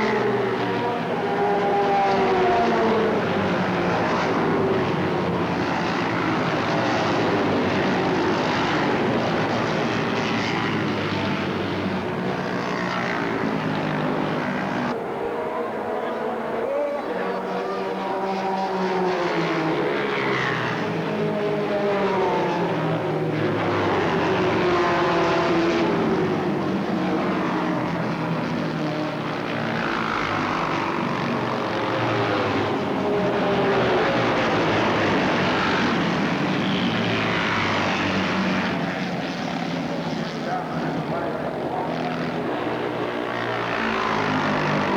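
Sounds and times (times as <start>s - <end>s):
racing motorcycle engines: 0.0s - 44.9s.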